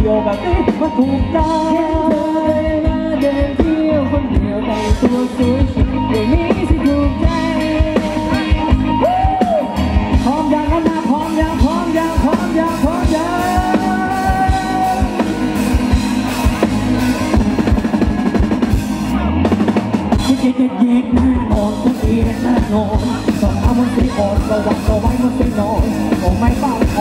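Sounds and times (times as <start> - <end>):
drum kit beats: 0.0 - 27.0
electric guitars: 0.0 - 27.0.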